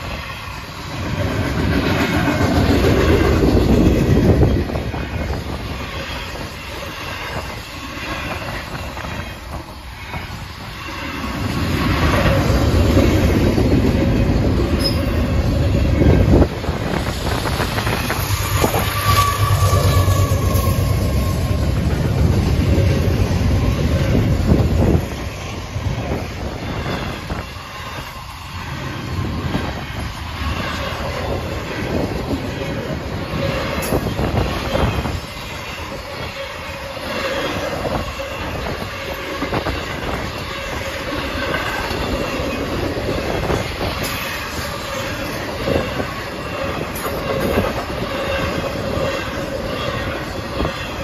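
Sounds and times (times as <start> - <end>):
train wheels rumbling and clattering: 0.0 - 51.0.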